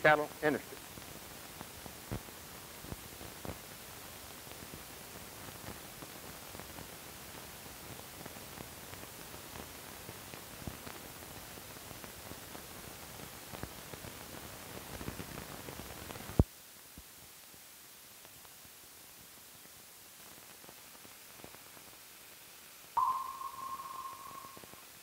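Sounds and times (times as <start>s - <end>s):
film soundtrack hiss: 0.0s - 25.0s
crackles and pops: 0.4s - 24.8s.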